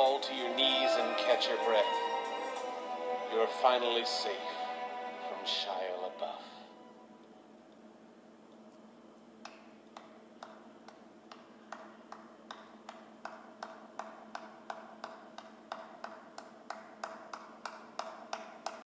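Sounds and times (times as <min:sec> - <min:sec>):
faint steady hum: 0:02.0 - 0:18.8.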